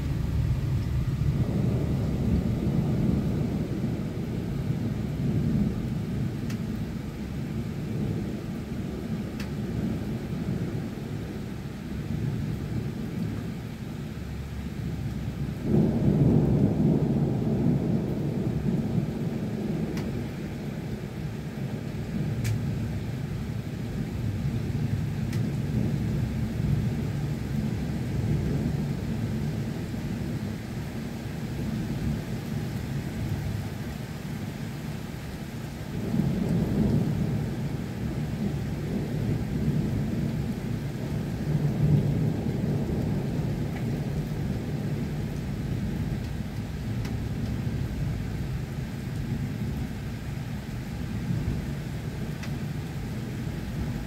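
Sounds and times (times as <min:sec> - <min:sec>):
thunder rumbling: 0:00.0 - 0:13.5, 0:14.2 - 0:33.8, 0:35.4 - 0:54.0
steady rain: 0:00.0 - 0:54.0.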